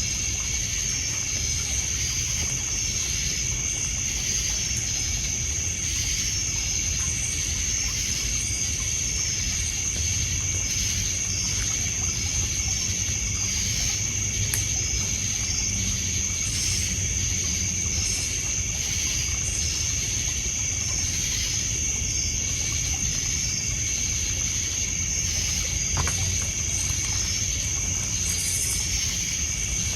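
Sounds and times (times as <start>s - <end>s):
crickets and insects chorus: 0.0s - 29.9s
water lapping at shore: 0.0s - 29.9s.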